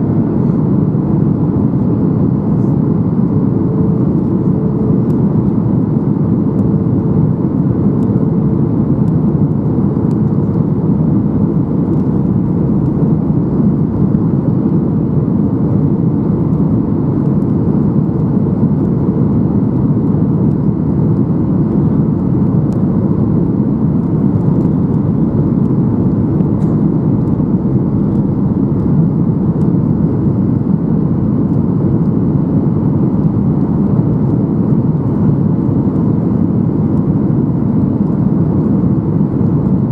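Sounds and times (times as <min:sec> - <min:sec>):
airflow over fuselage: 0:00.0 - 0:39.9
jet engine roar: 0:00.0 - 0:39.9.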